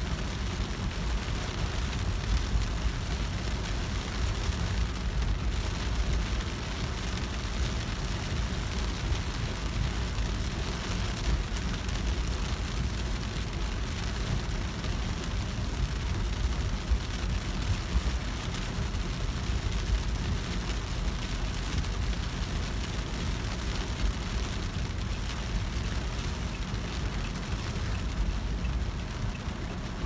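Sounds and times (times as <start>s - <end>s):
car driving on wet road: 0.0s - 30.0s
rain pattering on car: 0.0s - 30.0s.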